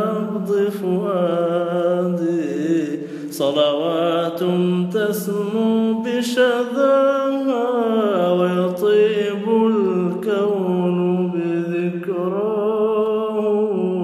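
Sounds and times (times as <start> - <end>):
man singing long held notes: 0.0 - 14.0.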